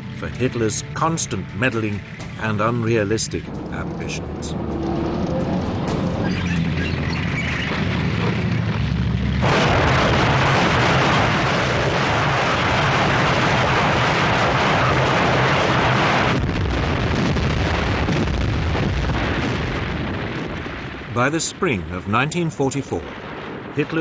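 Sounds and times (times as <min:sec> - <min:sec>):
loud dense roar: 0:00.0 - 0:21.8
low rumble: 0:00.0 - 0:24.0.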